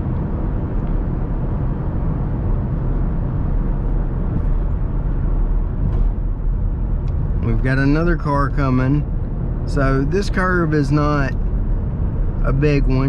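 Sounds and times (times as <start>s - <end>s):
car engine driving: 0.0s - 13.0s
road noise: 0.0s - 13.0s.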